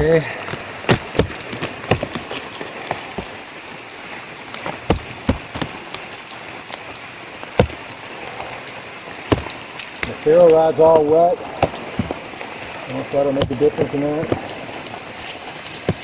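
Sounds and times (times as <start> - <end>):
heavy rain falling: 0.0 - 16.0
raindrops tapping close by: 0.0 - 16.0.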